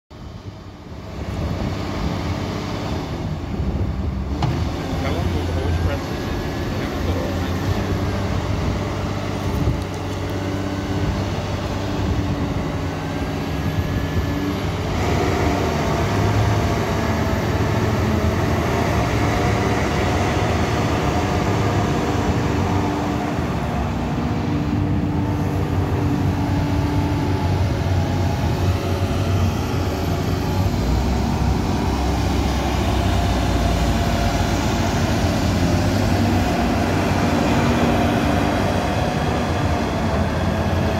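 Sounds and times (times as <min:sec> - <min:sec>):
diesel engine running: 0:00.1 - 0:40.9
hydraulic whine: 0:00.3 - 0:40.9.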